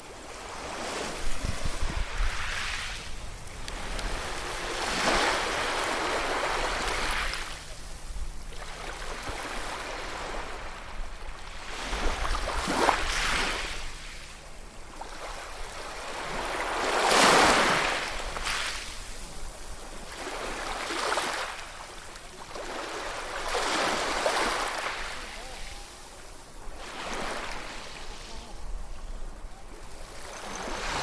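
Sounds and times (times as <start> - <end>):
ocean waves breaking on shore: 0.0 - 31.0.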